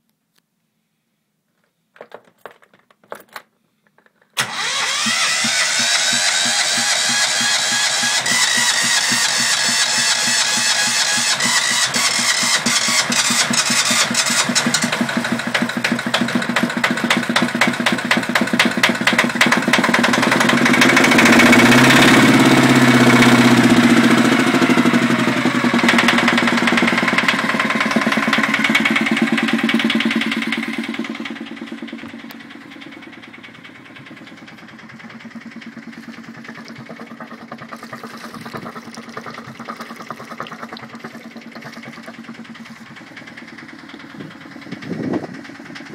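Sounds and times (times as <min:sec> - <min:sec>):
diesel engine idling: 0:04.4 - 0:45.9.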